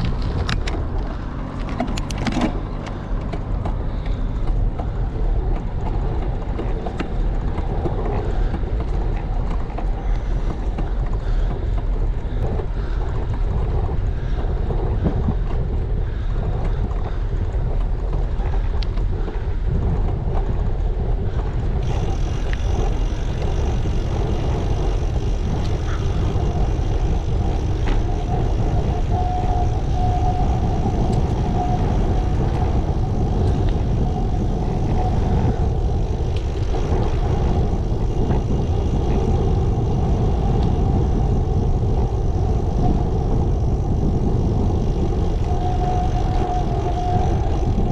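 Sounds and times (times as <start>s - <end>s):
road noise: 0.0s - 47.9s
wind rushing over microphone: 0.0s - 47.9s.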